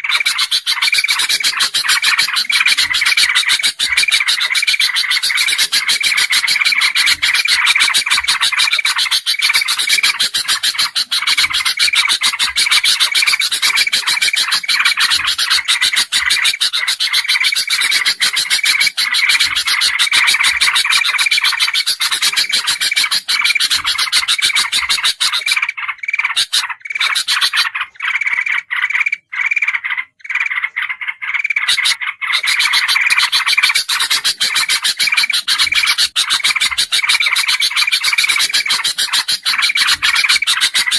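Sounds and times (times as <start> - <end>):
birds chattering: 0.0 - 40.9.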